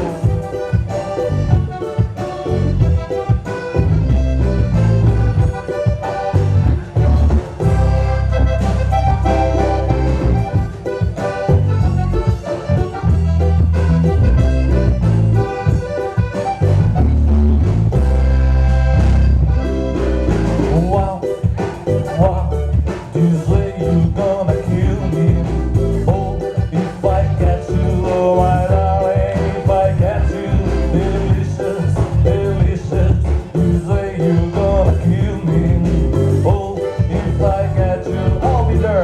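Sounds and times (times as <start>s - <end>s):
accordion-like melody: 0.0s - 39.0s
music with strong bass and beat: 0.0s - 39.0s.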